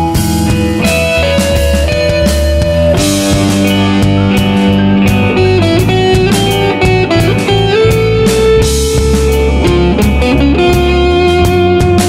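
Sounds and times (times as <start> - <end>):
drums steady beat: 0.0 - 12.0
guitar holding notes: 0.0 - 12.0.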